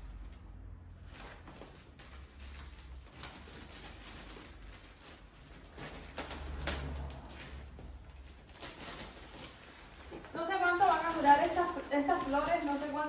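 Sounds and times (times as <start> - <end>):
plastic sleeve rustling and crinkling: 0.0 - 13.0.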